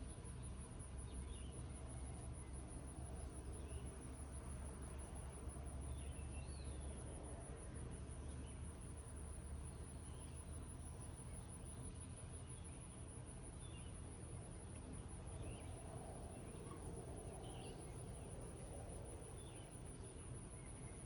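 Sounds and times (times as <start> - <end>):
insect trill: 0.1 - 21.0.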